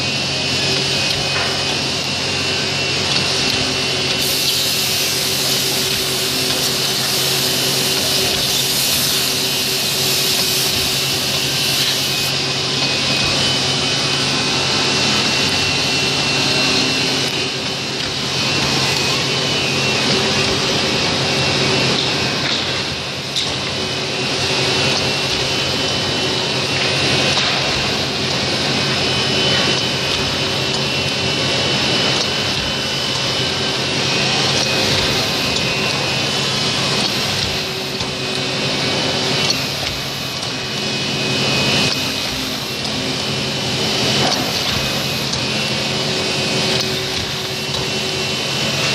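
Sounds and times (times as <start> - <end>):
wood-drilling machine running: 0.0 - 48.9.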